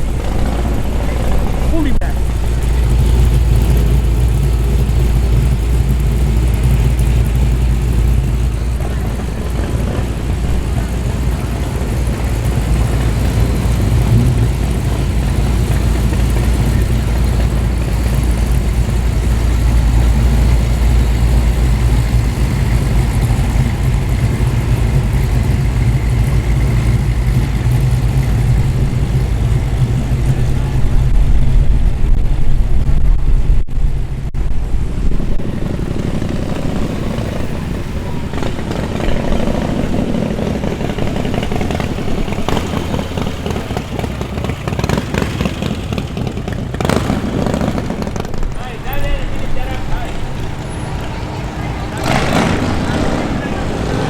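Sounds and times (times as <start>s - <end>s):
car engine low drone: 0.0s - 54.0s.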